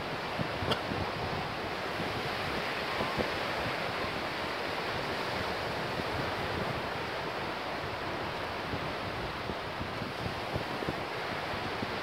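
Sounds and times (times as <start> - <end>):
waves washing up a beach: 0.0 - 12.0
wind buffeting microphone: 0.0 - 12.0.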